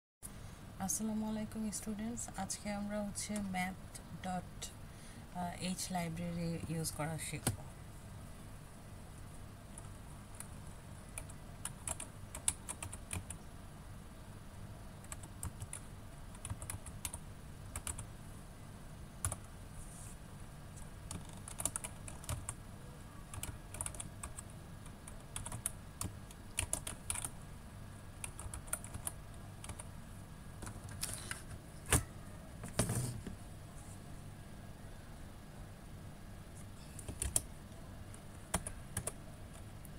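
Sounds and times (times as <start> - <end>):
faint steady hum: 0.2 - 39.9.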